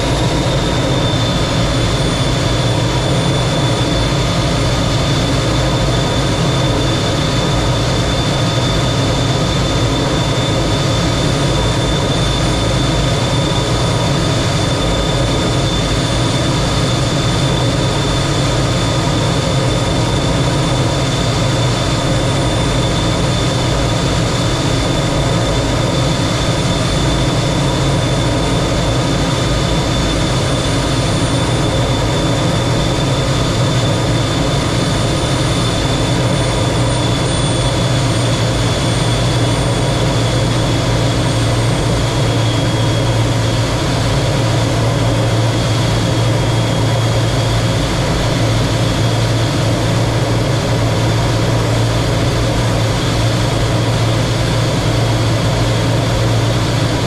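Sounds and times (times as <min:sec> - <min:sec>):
jet engine running in flight: 0:00.0 - 0:57.0.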